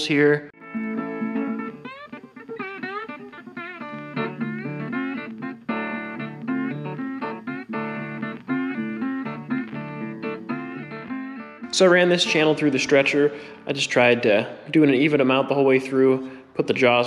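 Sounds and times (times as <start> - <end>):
guitar music with steady beat: 0.0 - 17.0.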